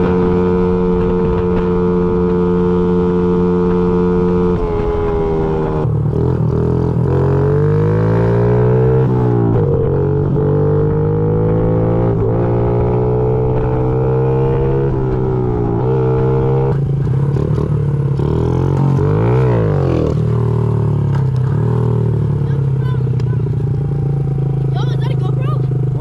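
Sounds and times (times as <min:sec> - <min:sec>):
small motorcycle engine revving: 0:00.0 - 0:26.0.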